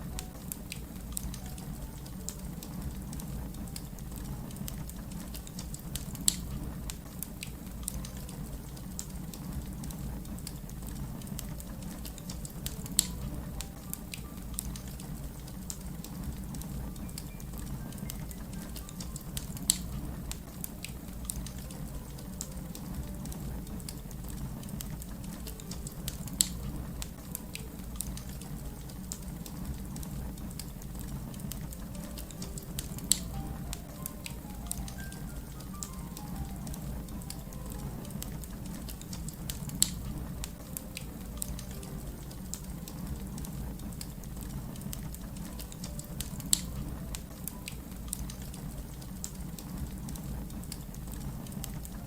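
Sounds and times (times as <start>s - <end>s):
fire crackling: 0.0s - 52.0s.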